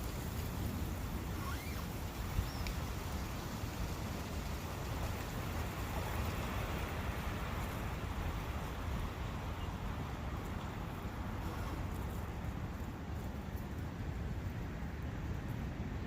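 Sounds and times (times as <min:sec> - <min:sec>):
brook running water: 0:00.0 - 0:16.0
wind: 0:00.0 - 0:16.0.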